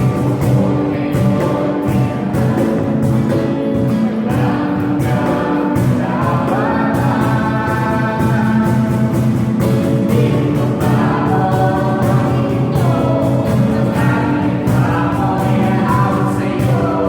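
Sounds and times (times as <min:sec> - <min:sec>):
band with a steady beat: 0:00.0 - 0:17.0
voices singing together: 0:00.0 - 0:17.0.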